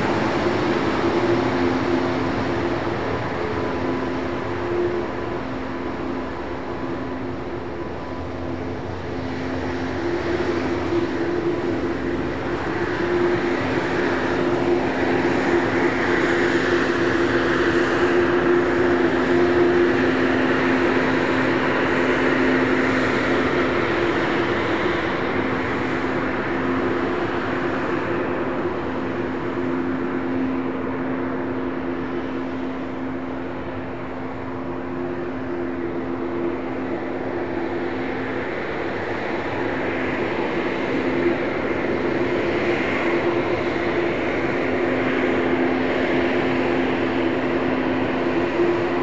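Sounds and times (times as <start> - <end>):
jet airliner passing: 0.0 - 49.0.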